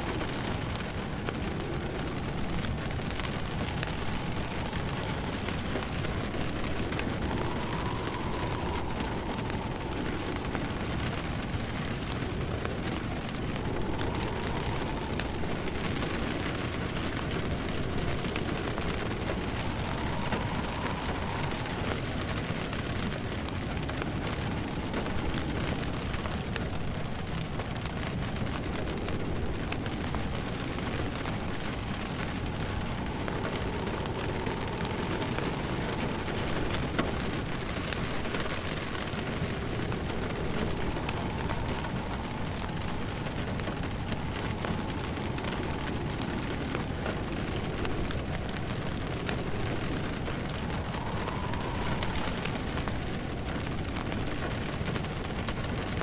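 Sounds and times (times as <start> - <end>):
rain falling: 0.0 - 56.0
wood fire crackling: 0.0 - 56.0
faint whistle: 3.6 - 26.5, 29.8 - 55.0.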